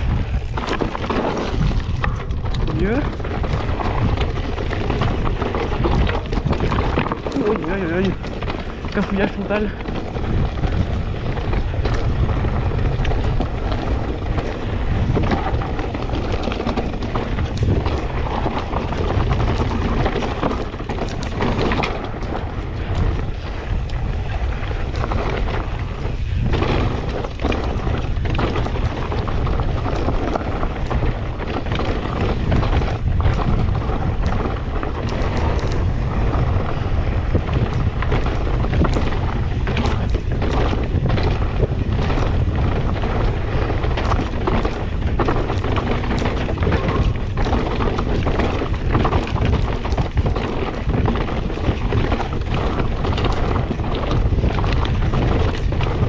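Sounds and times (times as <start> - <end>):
bike knocks and rattles: 0.0 - 56.0
tyres on rough trail: 0.0 - 56.0
wind buffeting microphone: 0.0 - 56.0.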